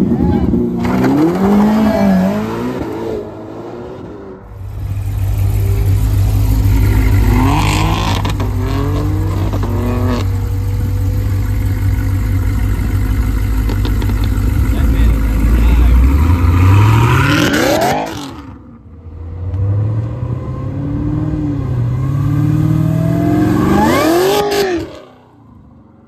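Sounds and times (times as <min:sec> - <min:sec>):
car engine revving: 0:00.0 - 0:25.4.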